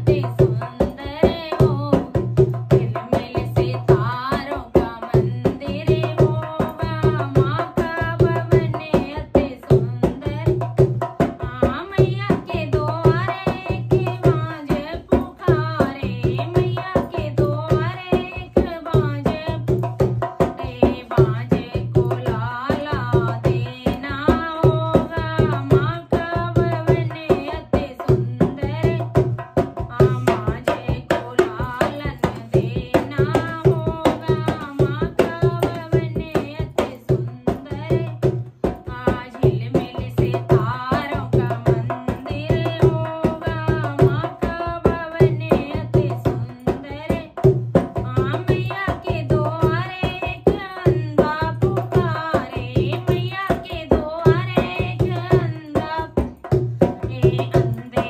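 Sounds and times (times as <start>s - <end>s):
barrel drum hand beat: 0.0s - 58.0s
woman singing: 0.0s - 58.0s.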